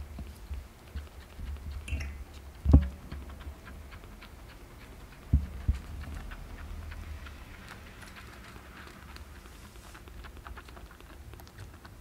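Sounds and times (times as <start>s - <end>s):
kitten suckling from bottle: 0.0s - 12.0s.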